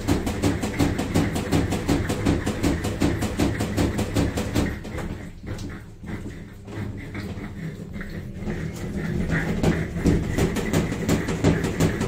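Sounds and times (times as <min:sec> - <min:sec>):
washing machine low hum: 0:00.0 - 0:12.0
washing machine rhythmic knocking: 0:00.0 - 0:12.0.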